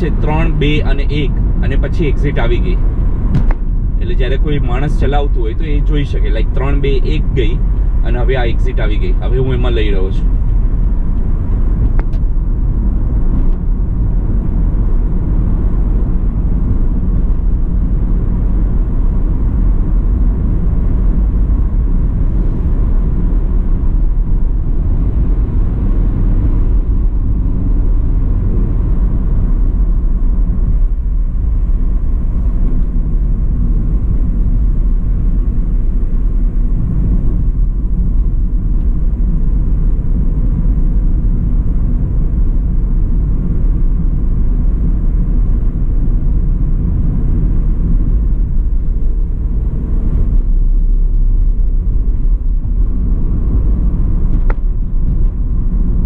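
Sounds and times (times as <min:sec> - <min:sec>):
low engine rumble: 0:00.0 - 0:56.0
tyre and road noise: 0:00.0 - 0:56.0.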